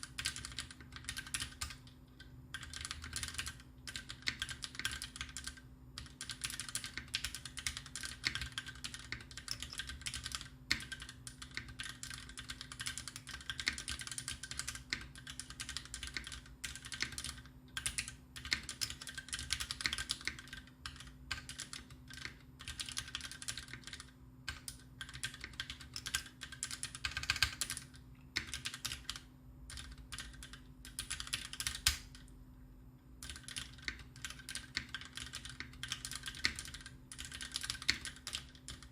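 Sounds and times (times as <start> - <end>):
mechanical keyboard typing: 0.0 - 32.3, 33.2 - 38.9.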